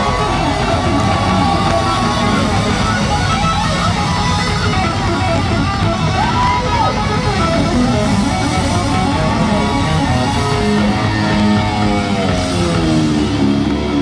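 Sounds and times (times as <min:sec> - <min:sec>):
gliding electric guitar notes: 0:00.0 - 0:14.0
rock band playing live: 0:00.0 - 0:14.0.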